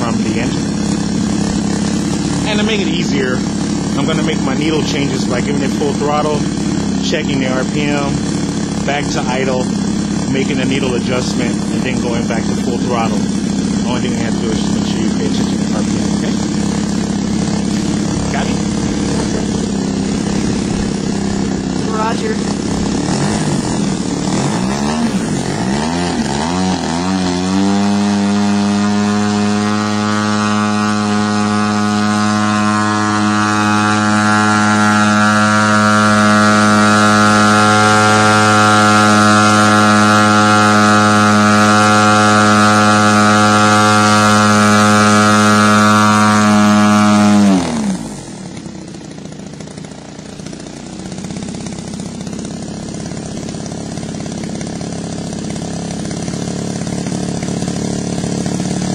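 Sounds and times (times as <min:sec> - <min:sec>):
model airplane engine droning: 0:00.0 - 0:58.9.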